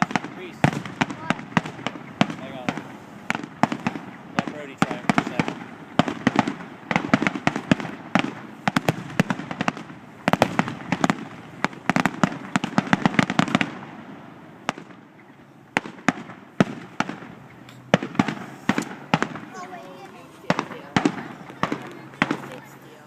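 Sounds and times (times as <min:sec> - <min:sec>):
fireworks cracking and banging: 0:00.0 - 0:23.0.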